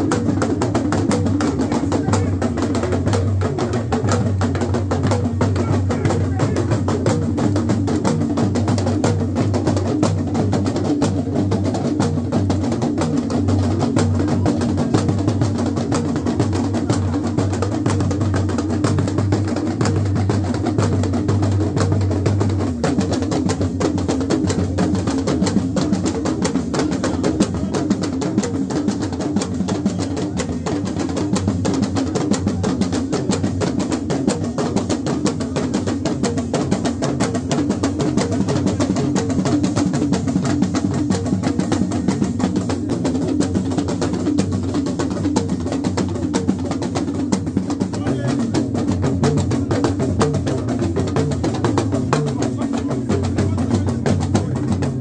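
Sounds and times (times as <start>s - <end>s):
music with drums and percussion: 0.0s - 55.0s.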